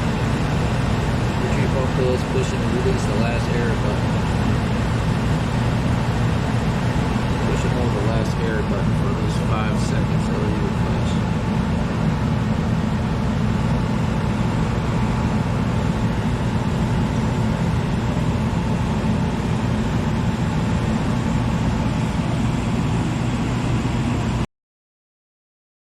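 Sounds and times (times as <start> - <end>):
furnace blower air rushing: 0.0 - 24.4.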